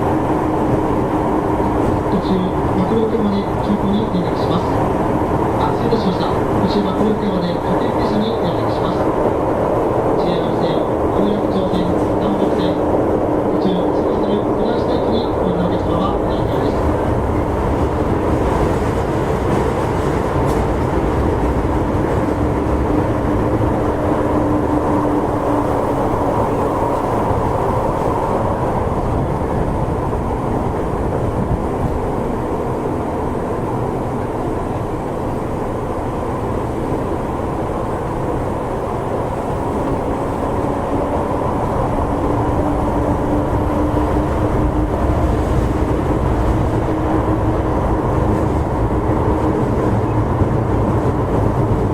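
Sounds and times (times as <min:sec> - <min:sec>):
subway car rumbling in tunnel: 0:00.0 - 0:51.9.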